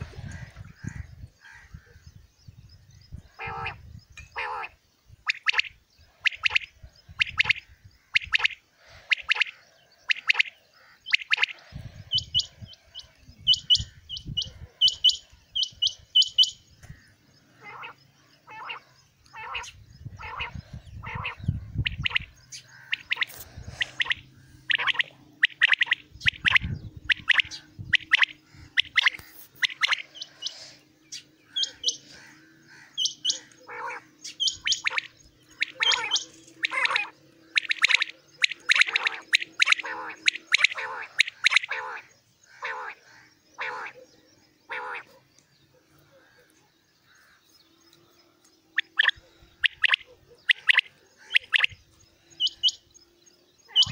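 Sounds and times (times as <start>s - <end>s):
quail calling: 3.3s - 47.4s, 48.7s - 52.9s, 53.7s - 53.9s.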